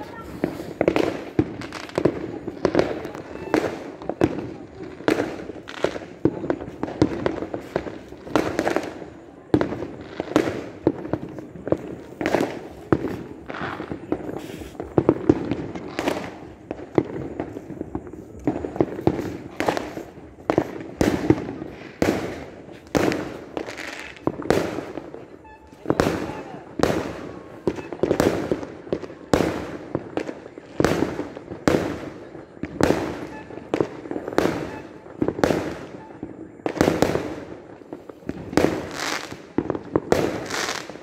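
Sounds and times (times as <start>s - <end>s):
distant fireworks rumble and crackle: 0.0s - 41.0s
fireworks bangs: 0.0s - 41.0s.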